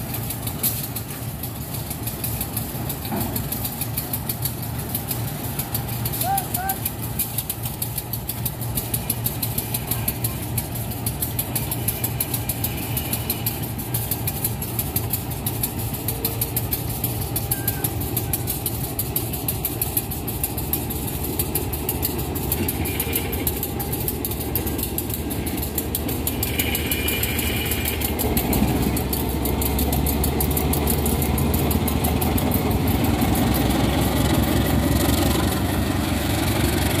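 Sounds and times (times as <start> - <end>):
locomotive diesel engine pulsing: 0.0 - 37.0.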